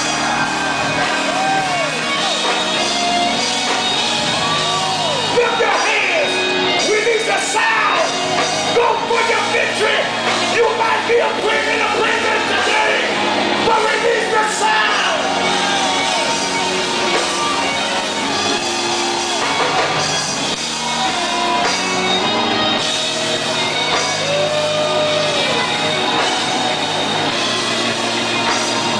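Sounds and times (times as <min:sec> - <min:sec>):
church band playing: 0:00.0 - 0:28.9
held keyboard chords: 0:00.0 - 0:28.9.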